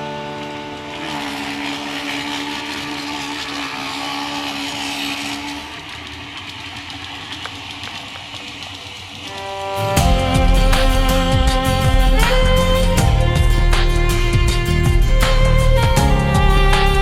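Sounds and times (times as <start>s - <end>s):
model train motor whirring: 0.0s - 17.0s
wheels and gears rattling: 0.0s - 17.0s.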